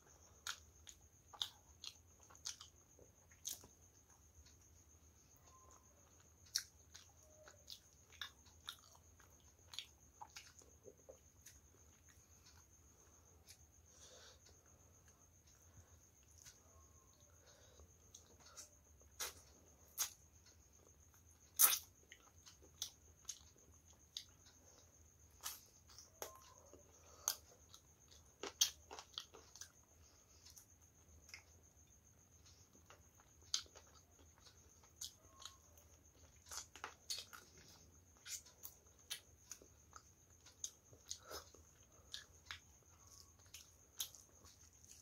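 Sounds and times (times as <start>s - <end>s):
faint high whine: 0.0s - 45.0s
chewing with wet mouth clicks: 0.1s - 4.6s, 5.4s - 13.7s, 17.4s - 31.6s, 32.4s - 45.0s.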